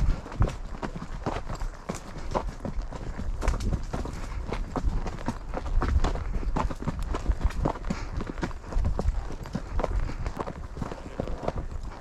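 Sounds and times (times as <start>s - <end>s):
horse hooves on trail: 0.0s - 12.0s.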